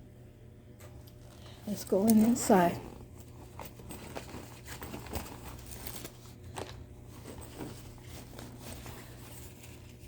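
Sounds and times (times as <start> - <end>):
hands rummaging in a knapsack: 0.8 - 10.0.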